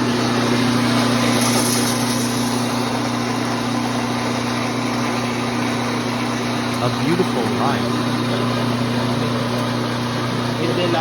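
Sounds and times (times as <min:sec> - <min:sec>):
coffee roaster motor hum: 0:00.0 - 0:11.0.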